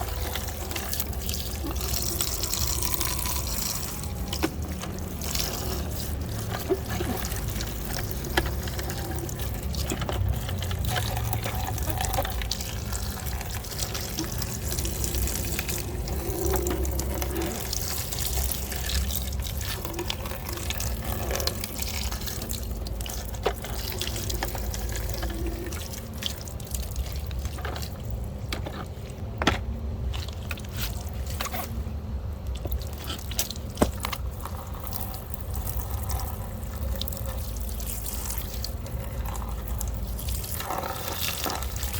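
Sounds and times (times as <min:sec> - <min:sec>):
water running and splashing: 0:00.0 - 0:29.0, 0:32.4 - 0:41.9.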